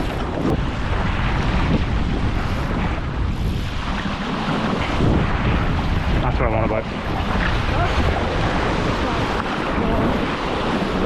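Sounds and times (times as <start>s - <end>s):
water rushing past boat hull: 0.0s - 11.0s
wind buffeting microphone: 0.0s - 11.0s.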